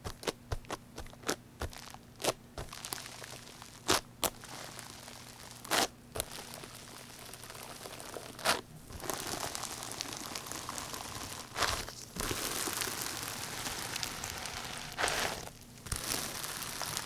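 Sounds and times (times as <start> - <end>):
slime squelches: 0.0 - 17.0
slime crackling squish: 0.1 - 17.0.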